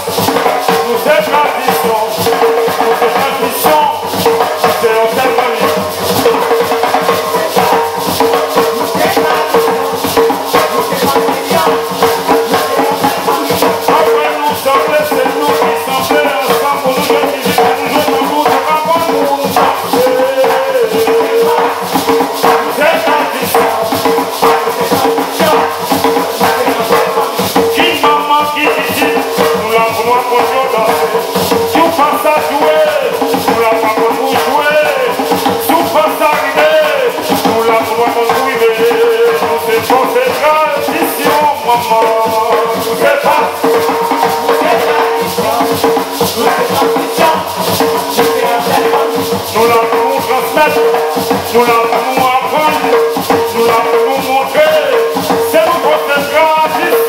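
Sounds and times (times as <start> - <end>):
group of people singing: 0.0 - 57.0
hand drums beating fast rhythm: 0.0 - 57.0
shaker: 0.0 - 57.0.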